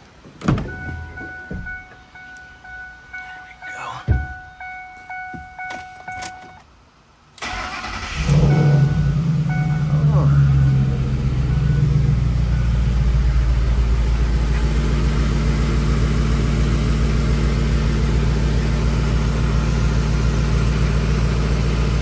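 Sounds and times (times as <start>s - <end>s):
car engine idling: 0.5s - 6.6s, 7.4s - 22.0s.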